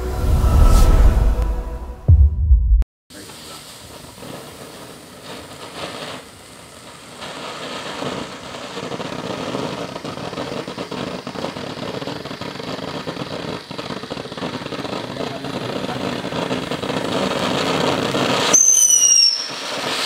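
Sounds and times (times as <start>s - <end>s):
firework fountain hissing sparks: 3.1s - 20.0s.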